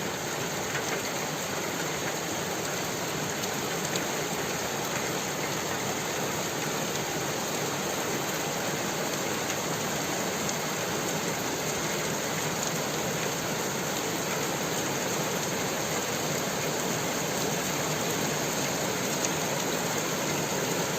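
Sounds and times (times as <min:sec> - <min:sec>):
rain falling: 0:00.0 - 0:20.9.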